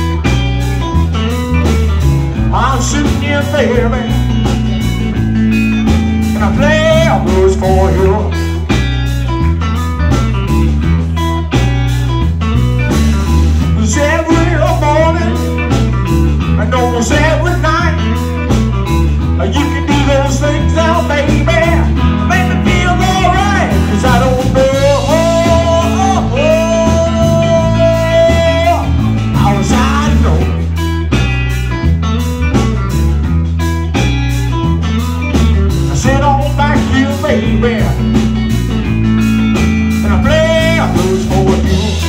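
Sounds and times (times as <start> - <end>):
bass guitar: 0.0 - 42.0
drums: 0.0 - 42.0.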